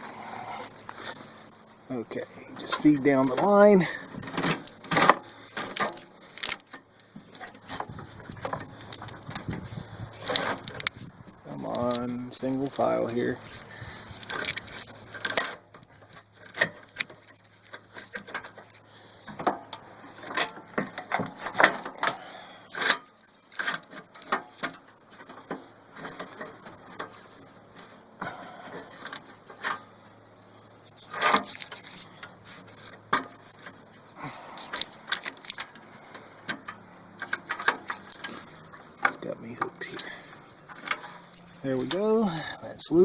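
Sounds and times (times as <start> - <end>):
wiring harness clicking and rubbing: 0.0 - 43.0.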